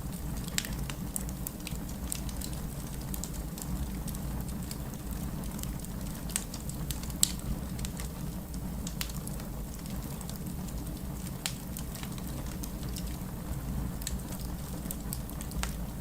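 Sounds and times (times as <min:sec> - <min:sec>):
campfire crackles and pops: 0:00.0 - 0:16.0
low fire rumble: 0:00.0 - 0:16.0.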